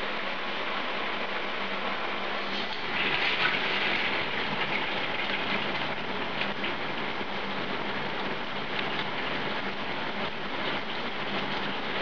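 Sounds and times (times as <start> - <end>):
shower water spraying: 2.3 - 12.0.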